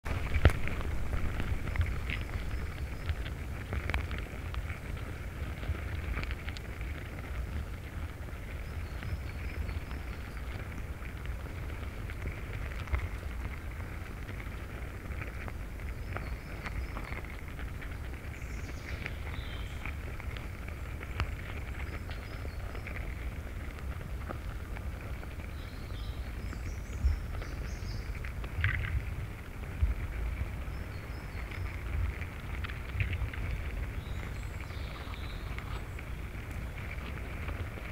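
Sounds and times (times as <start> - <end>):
ants crackling and fizzing: 0.0 - 37.9.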